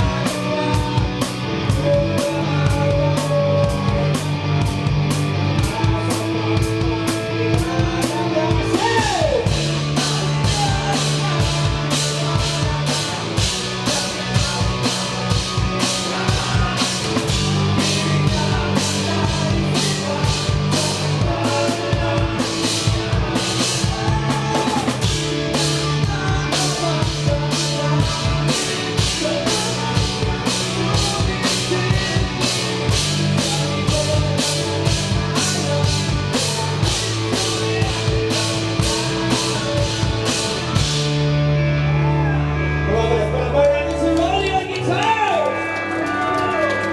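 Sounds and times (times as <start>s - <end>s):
drum kit beat: 0.0s - 41.6s
live rock band: 0.0s - 46.9s.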